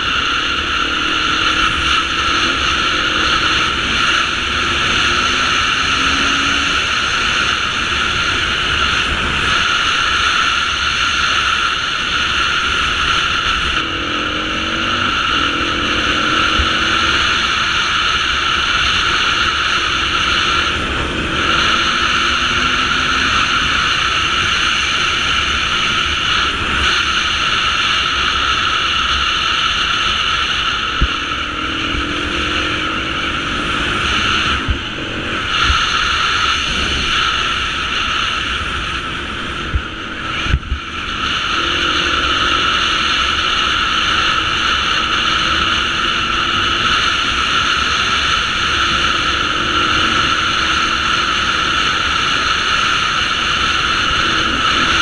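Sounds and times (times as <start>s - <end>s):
motorcycle engine: 0.0s - 55.0s
wind rushing: 0.0s - 55.0s.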